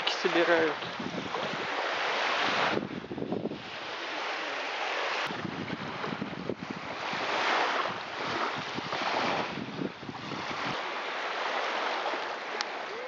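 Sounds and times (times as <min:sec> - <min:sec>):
small waves lapping on shore: 0:00.0 - 0:13.0
wind rumbling on microphone: 0:00.0 - 0:13.0.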